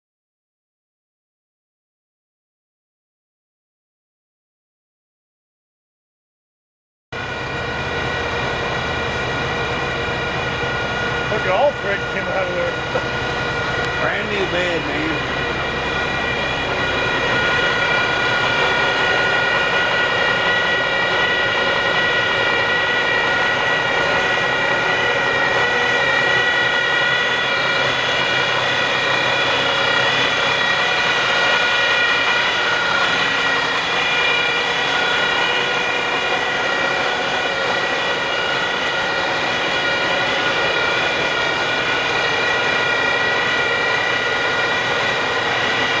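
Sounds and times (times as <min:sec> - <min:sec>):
hydraulic pump whine: 0:07.2 - 0:46.0
truck engine running: 0:07.2 - 0:46.0.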